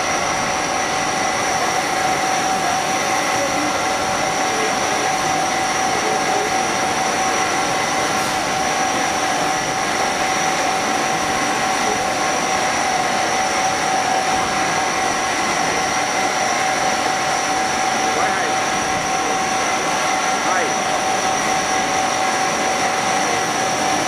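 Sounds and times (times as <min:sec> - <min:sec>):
spindle and cutter whine: 0:00.0 - 0:24.0.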